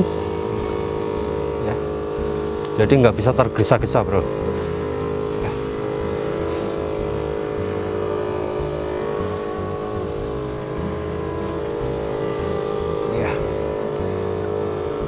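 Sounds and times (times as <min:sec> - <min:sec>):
backpack sprayer motor humming: 0:00.0 - 0:15.0
sprayer wand spraying mist: 0:00.0 - 0:15.0.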